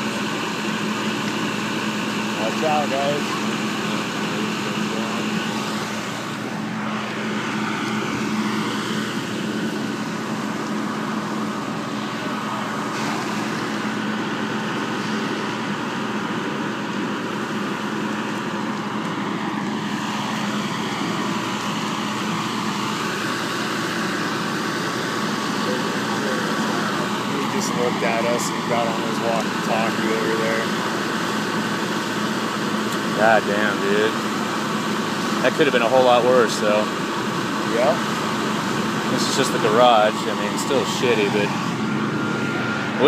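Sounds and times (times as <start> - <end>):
fire engine pump running: 0.0 - 43.0.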